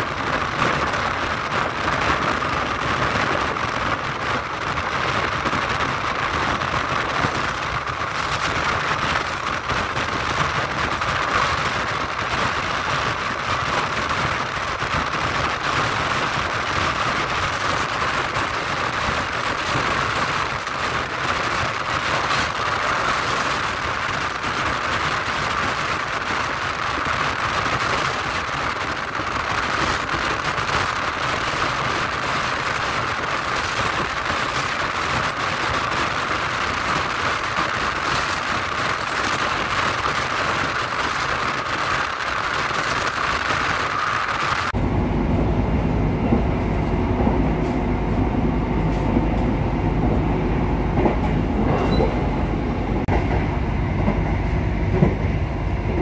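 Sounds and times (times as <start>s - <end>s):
train running on board: 0.0s - 56.0s.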